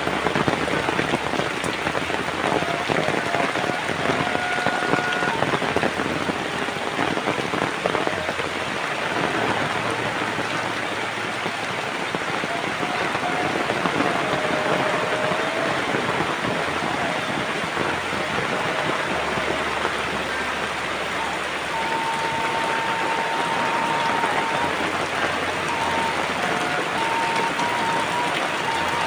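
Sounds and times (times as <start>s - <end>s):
heavy rain hiss: 0.0s - 29.0s.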